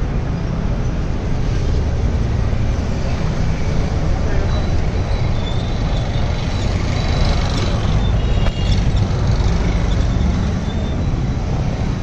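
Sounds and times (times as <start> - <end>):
scooters and cars passing: 0.0 - 12.0
street traffic rumble: 0.0 - 12.0.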